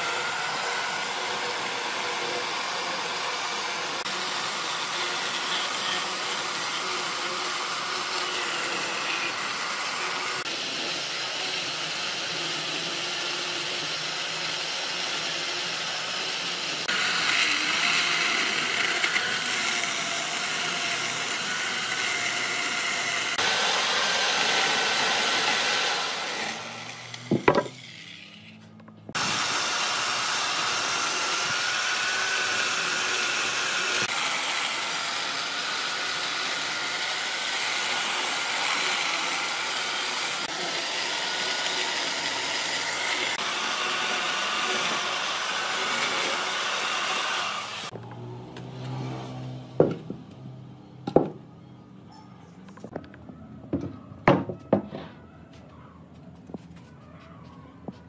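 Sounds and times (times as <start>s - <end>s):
power tool cutting wood: 0.0s - 50.4s.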